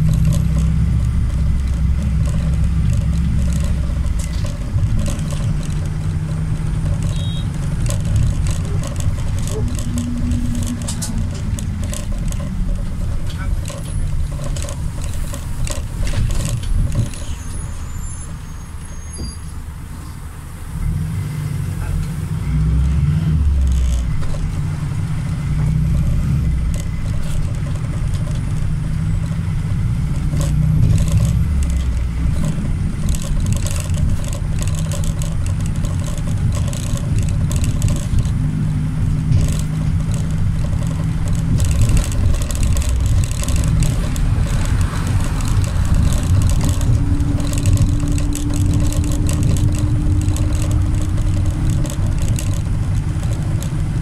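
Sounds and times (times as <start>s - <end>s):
diesel engine rumble: 0.0s - 54.0s.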